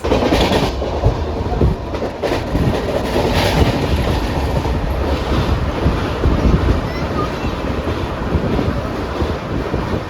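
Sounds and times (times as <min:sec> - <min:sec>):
train rumbling on track: 0:00.0 - 0:10.0
wheels knocking: 0:00.0 - 0:10.0.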